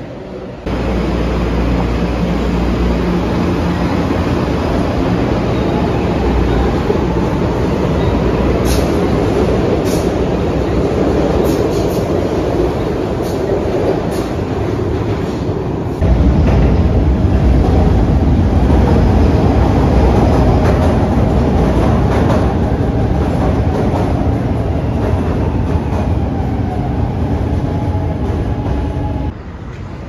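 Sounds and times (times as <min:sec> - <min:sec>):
subway train passing: 0:00.0 - 0:30.0
train on elevated structure: 0:00.0 - 0:30.0.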